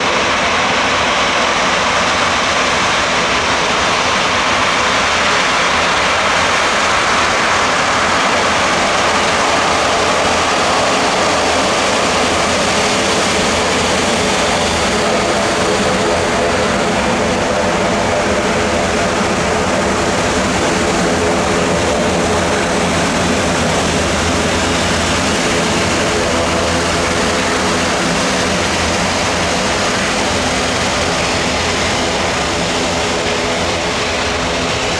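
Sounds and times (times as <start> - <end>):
jet engines running: 0.0 - 34.9.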